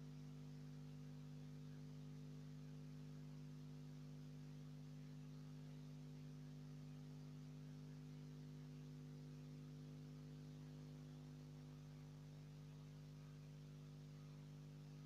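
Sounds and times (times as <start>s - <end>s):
faint low hum with hiss: 0.0s - 15.0s.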